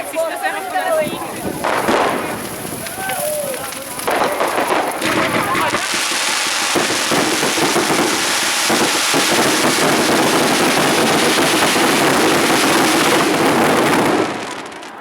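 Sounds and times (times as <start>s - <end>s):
bonfire crackling: 0.0s - 15.0s
flames rushing: 0.0s - 15.0s.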